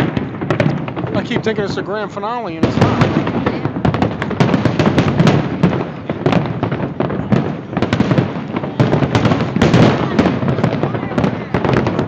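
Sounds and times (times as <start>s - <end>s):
fireworks bursts and crackling: 0.0s - 12.0s.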